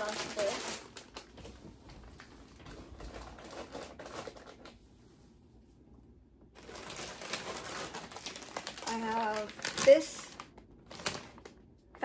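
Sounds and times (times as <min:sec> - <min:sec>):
plastic packaging rustling: 0:00.0 - 0:04.9, 0:06.6 - 0:12.0.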